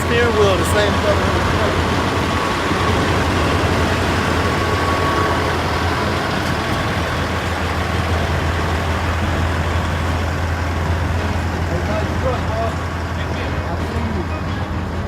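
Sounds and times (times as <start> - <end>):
diesel truck engine idling: 0.0 - 15.0
faint steady whine: 0.0 - 15.0.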